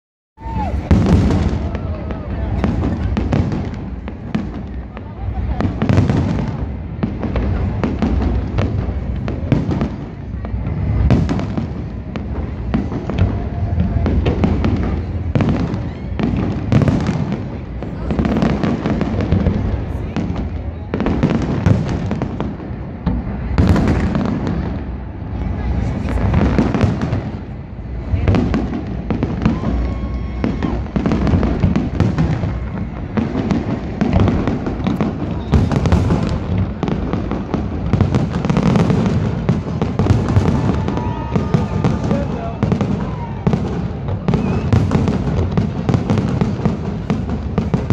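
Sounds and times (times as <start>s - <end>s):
fireworks bursting: 0.4s - 47.9s.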